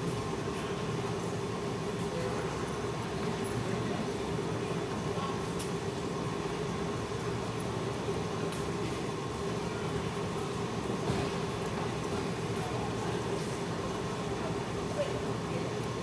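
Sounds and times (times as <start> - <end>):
ventilation fans humming: 0.0 - 16.0.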